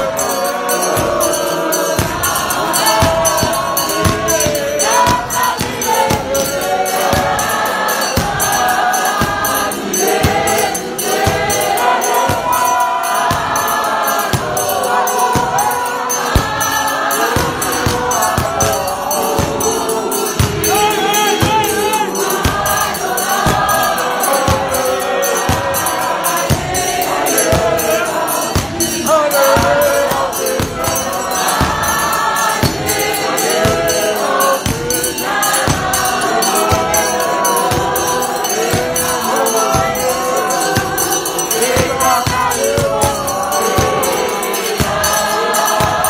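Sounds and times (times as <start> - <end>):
crowd singing a hymn: 0.0 - 46.0
steady percussive beat: 0.0 - 46.0.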